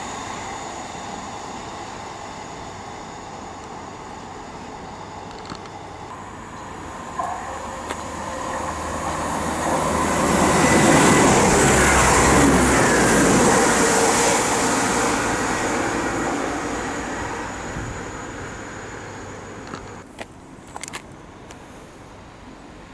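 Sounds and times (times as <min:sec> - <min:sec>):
diesel train passing: 0:00.0 - 0:22.9
wheel on rail noise: 0:00.0 - 0:22.9.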